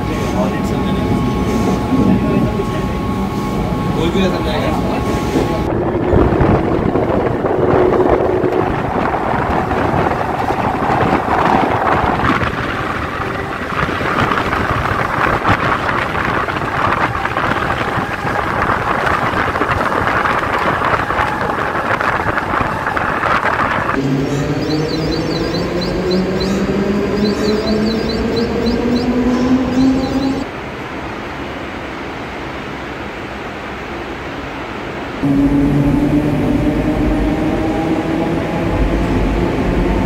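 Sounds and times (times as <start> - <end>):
electric train running: 0.0 - 30.5, 35.2 - 40.0
wind rushing past: 0.0 - 40.0.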